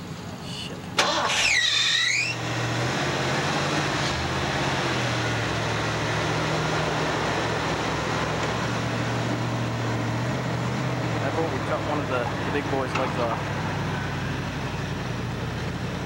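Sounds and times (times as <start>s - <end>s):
truck engine running low hum: 2.0s - 16.0s.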